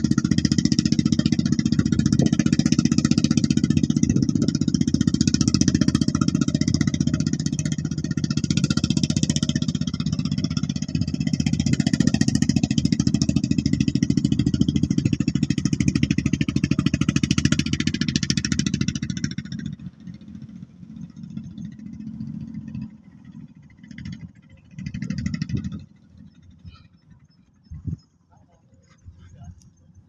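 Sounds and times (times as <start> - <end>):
truck engine chugging: 0.0 - 30.0.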